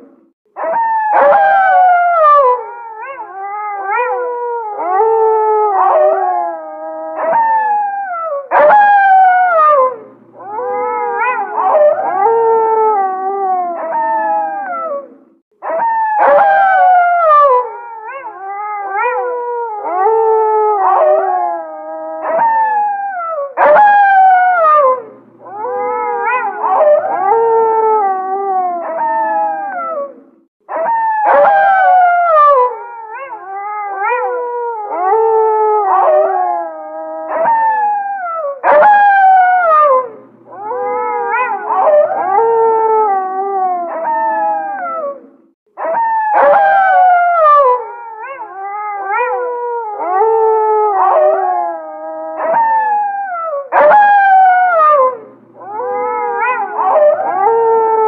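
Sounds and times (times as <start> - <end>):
wolves howling in chorus: 0.0 - 58.0.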